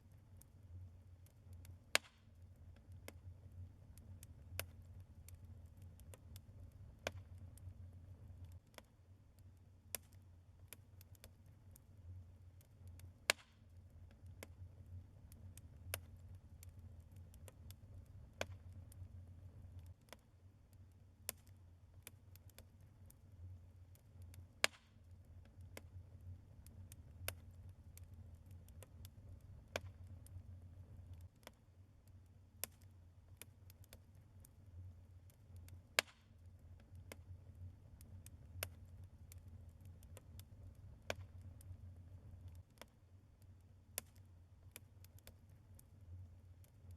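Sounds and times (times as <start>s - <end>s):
fireplace logs crackling: 1.3s - 46.9s.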